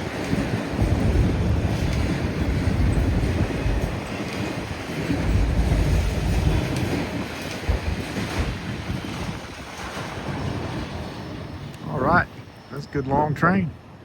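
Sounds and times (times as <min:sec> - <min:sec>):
freight train cars rumbling: 0:00.0 - 0:14.0
wind buffeting microphone: 0:00.0 - 0:14.0.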